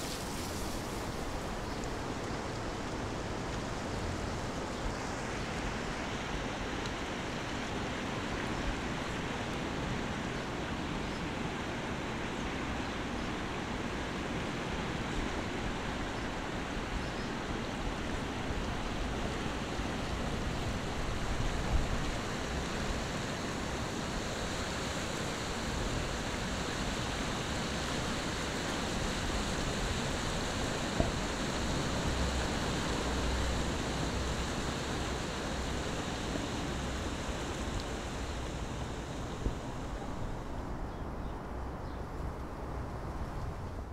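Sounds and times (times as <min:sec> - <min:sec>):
river rushing over rocks: 0:00.0 - 0:40.8.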